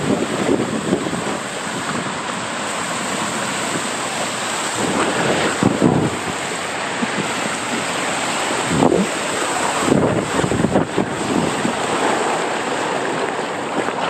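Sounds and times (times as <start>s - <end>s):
water rushing in water slide: 0.0s - 14.0s
wind on microphone: 0.0s - 14.0s.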